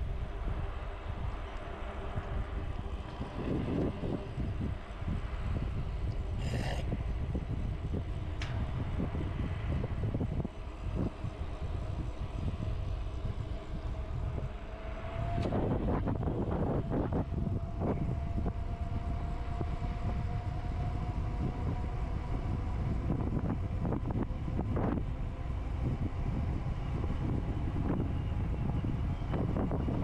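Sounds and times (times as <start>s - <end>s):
faint steady whine: 0.0s - 30.0s
vehicle rumble in motion: 0.0s - 30.0s.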